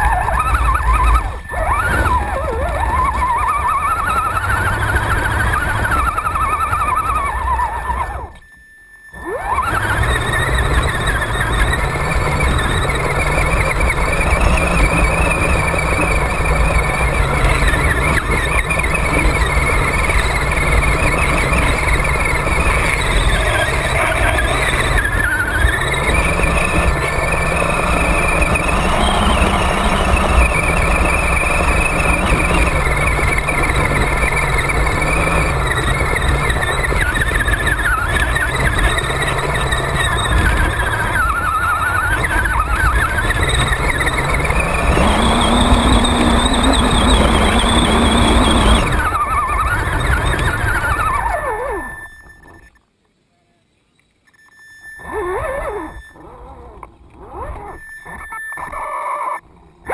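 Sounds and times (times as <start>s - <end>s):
rumble of tyres and water: 0.0s - 8.1s, 9.2s - 52.6s
toy truck motor whining: 0.0s - 52.9s, 54.4s - 59.9s.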